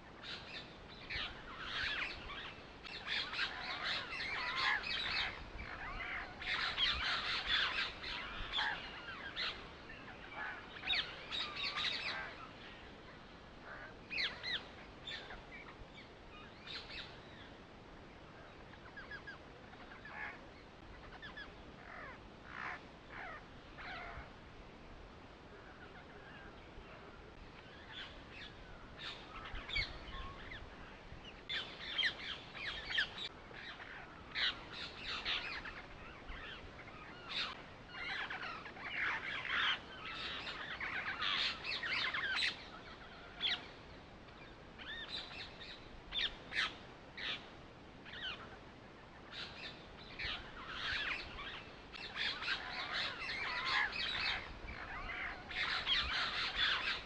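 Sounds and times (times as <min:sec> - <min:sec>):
birds chirping: 0:00.0 - 0:24.4, 0:25.4 - 0:57.0.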